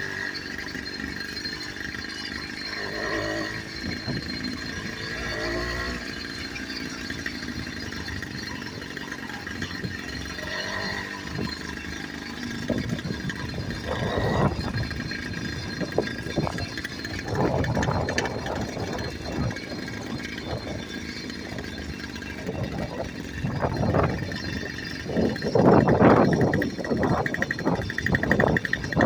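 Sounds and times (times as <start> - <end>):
motorbike engine running: 0.0 - 29.0.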